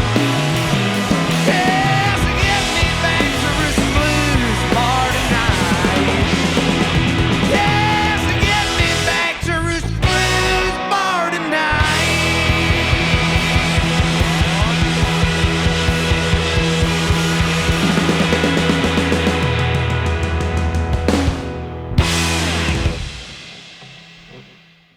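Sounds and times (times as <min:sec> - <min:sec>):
bass guitar: 0:00.0 - 0:24.5
electric guitar: 0:00.0 - 0:24.5
drums: 0:00.0 - 0:24.9.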